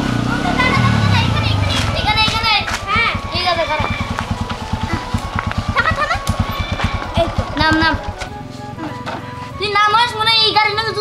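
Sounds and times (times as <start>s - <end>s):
motorcycle engine idling: 0.0s - 9.1s
background music: 0.0s - 11.0s.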